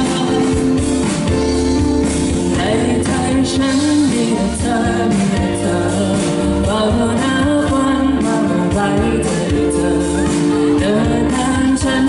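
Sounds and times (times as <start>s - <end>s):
woman singing into a microphone: 0.0s - 1.0s, 2.3s - 12.0s
live pop music: 0.0s - 12.0s.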